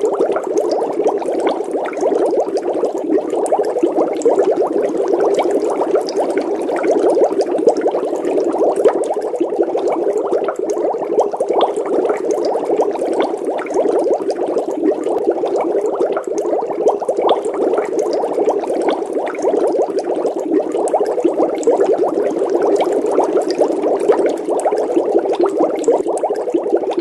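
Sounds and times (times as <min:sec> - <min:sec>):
water bubbling: 0:00.0 - 0:27.0.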